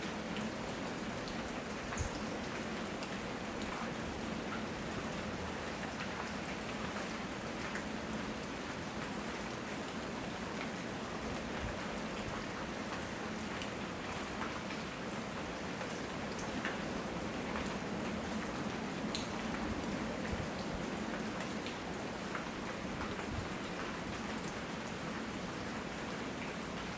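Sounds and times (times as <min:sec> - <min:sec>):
raindrops ticking on a surface: 0:00.0 - 0:26.9
steady rain patter: 0:00.0 - 0:26.9.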